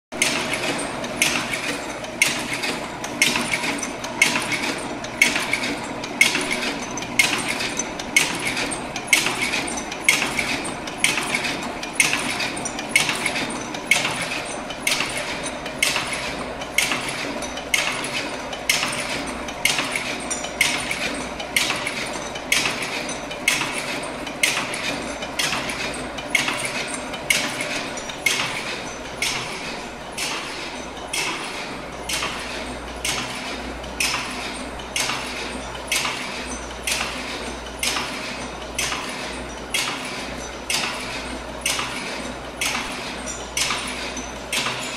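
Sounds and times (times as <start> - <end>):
machine mechanism clacking: 0.2 - 44.9.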